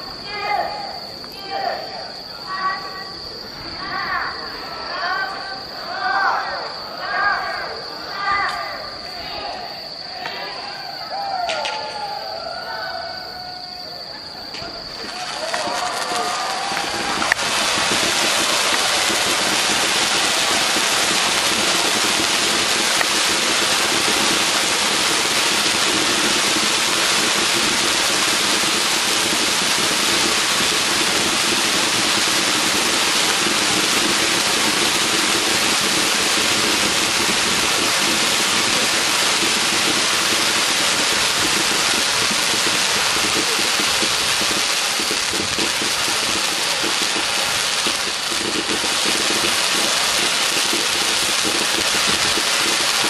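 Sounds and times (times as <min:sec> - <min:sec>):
firework fountain hissing: 0:00.0 - 0:53.0.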